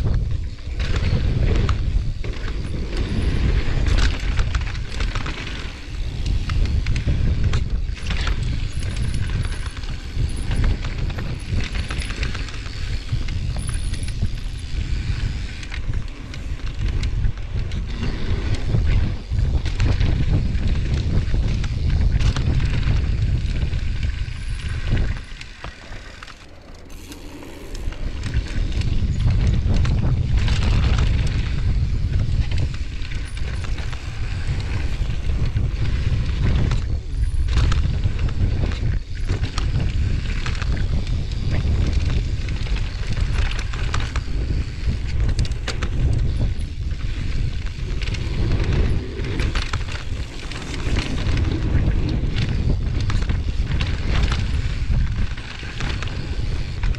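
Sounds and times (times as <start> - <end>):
bike rattling over bumps: 0.0 - 56.9
wind buffeting microphone: 0.0 - 56.9.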